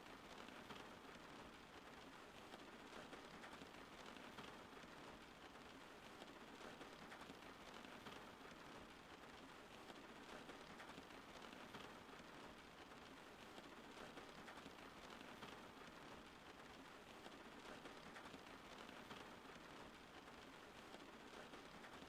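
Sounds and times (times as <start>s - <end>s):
soft rain falling: 0.0s - 22.0s.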